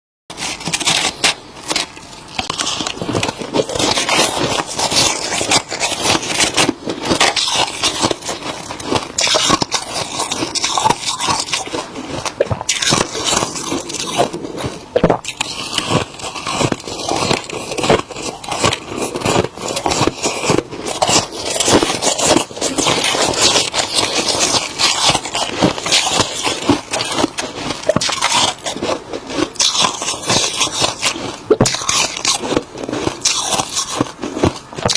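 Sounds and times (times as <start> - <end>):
frost being chewed crunching: 0.3 - 34.9.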